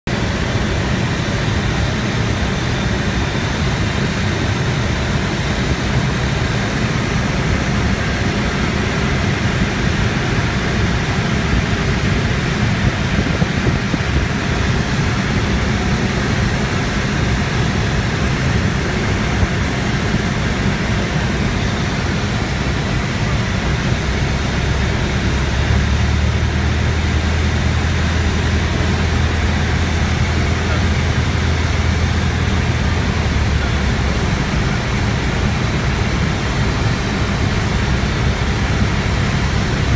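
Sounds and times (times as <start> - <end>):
propeller engine droning: 0.1 - 39.9.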